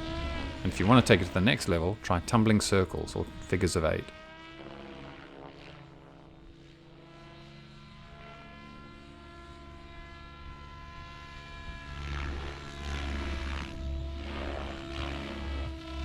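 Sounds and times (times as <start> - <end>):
model helicopter rotor whine: 0.0 - 16.0.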